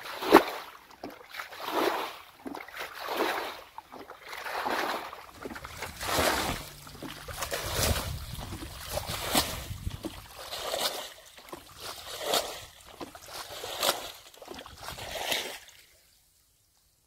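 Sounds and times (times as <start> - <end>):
bucket splashing muddy water: 0.0 - 16.0.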